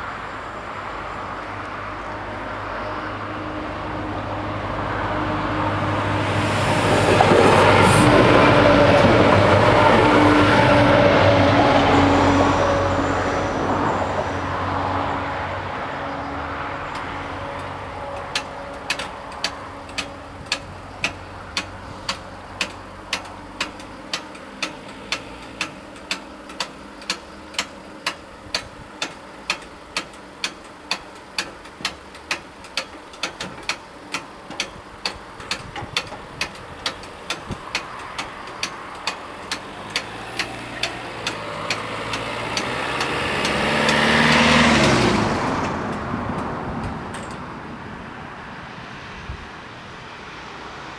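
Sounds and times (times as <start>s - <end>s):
car passing close: 0.0s - 28.2s, 36.7s - 50.9s.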